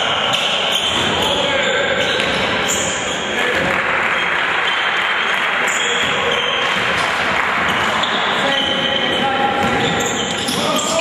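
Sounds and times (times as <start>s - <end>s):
sneakers squeaking on court: 0.0s - 3.7s, 4.6s - 11.0s
crowd noise in a gym: 0.0s - 11.0s.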